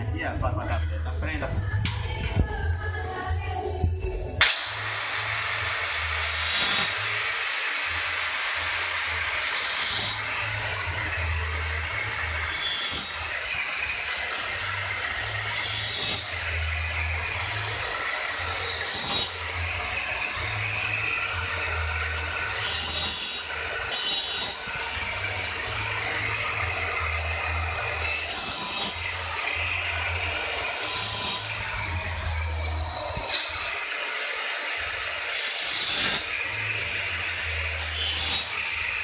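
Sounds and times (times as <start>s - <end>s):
tile saw grinding through tile: 4.4s - 39.0s.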